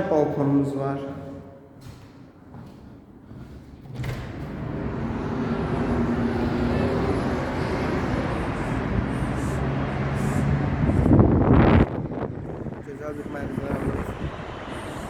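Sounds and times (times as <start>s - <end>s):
road traffic hum: 1.8s - 15.0s.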